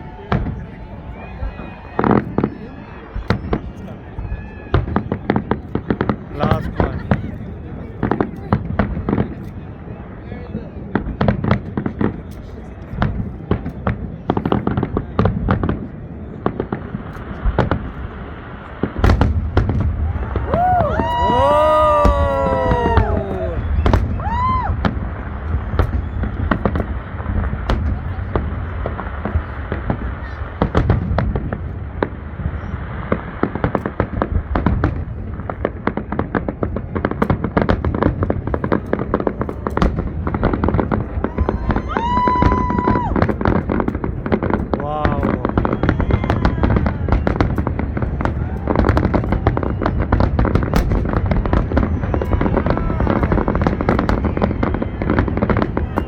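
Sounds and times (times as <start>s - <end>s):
fireworks bangs and cracks: 0.0s - 56.0s
low rumble of explosions: 0.0s - 56.0s.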